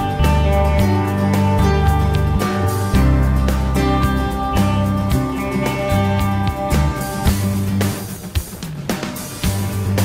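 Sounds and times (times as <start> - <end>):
guitar-led music with beat: 0.0 - 10.0.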